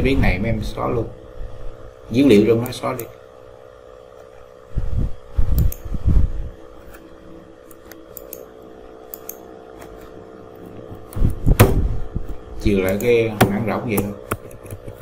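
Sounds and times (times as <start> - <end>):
computer fan hum: 0.0 - 15.0.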